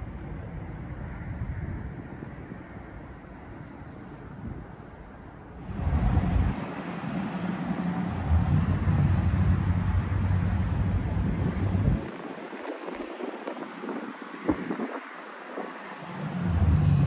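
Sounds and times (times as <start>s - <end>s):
wind gusts buffeting microphone: 0.0s - 17.0s
wind rumble: 0.0s - 17.0s.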